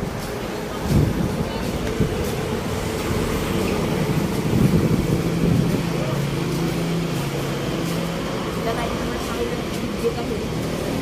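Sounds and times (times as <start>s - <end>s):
motor engine humming: 0.0s - 11.0s.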